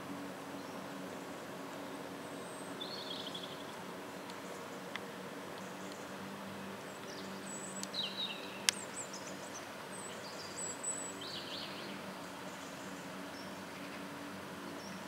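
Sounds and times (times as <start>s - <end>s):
low outdoor hum: 0.0s - 15.0s
small birds chirping: 0.5s - 15.0s.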